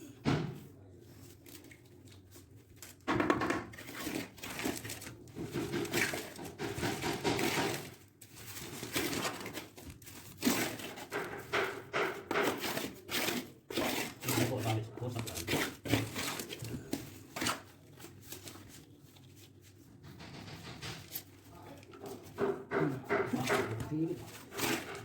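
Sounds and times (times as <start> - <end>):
scraping and knocking on a drain: 2.9 - 25.0.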